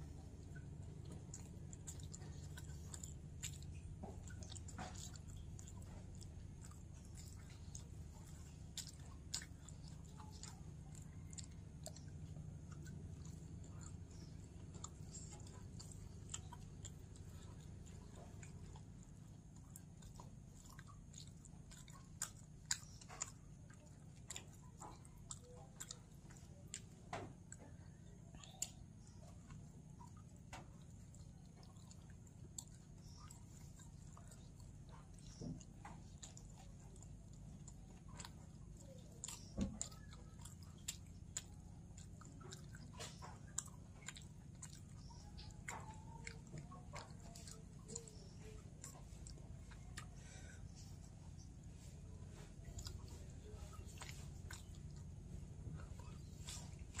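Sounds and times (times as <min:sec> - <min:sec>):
person chewing food: 0:00.0 - 0:57.0
steady low hum: 0:00.0 - 0:57.0.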